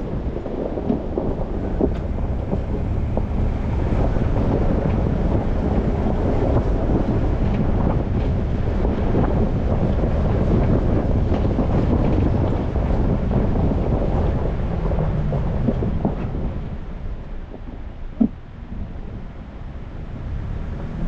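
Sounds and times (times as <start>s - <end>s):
vehicle engine and road rumble: 0.0s - 21.0s
wind buffeting microphone: 0.0s - 21.0s.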